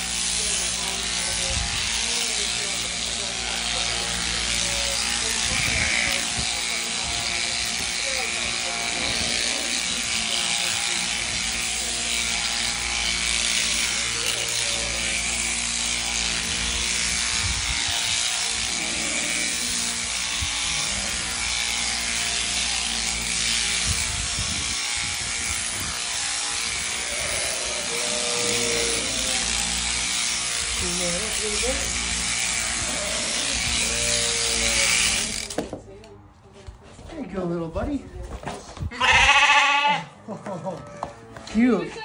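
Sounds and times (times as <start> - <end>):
electric shears buzzing: 0.0 - 35.8.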